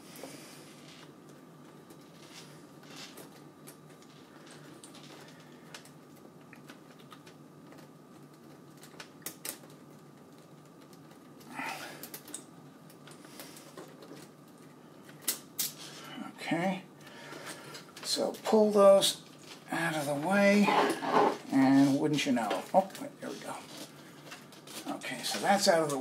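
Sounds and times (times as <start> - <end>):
cables rustling: 0.0 - 16.2, 16.9 - 26.0.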